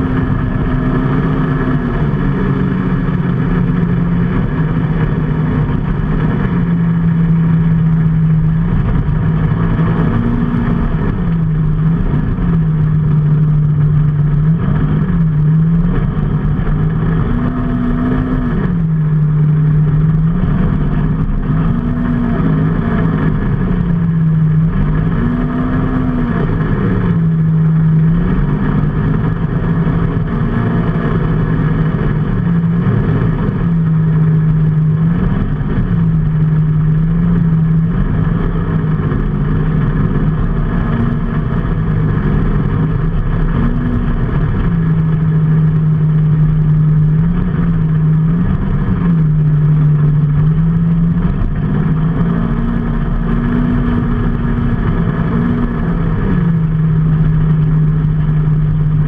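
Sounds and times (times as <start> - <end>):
road and wind noise: 0.0 - 59.0
vehicle engine revving: 0.0 - 59.0.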